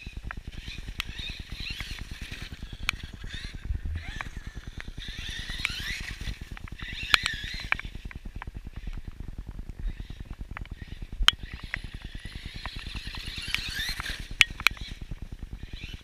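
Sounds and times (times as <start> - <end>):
rc car electric motor whining: 0.0 - 16.0
wind rumble on microphone: 0.0 - 16.0.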